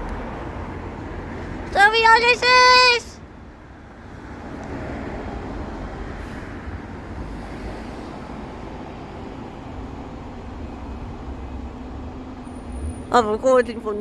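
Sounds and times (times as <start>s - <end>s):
vehicle engine and tyre noise: 0.0s - 14.0s.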